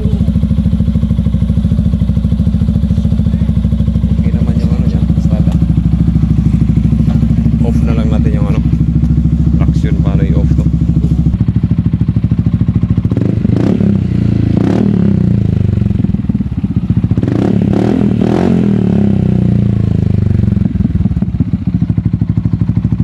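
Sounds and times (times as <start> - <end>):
scooter engine idling and revving: 0.0 - 23.0.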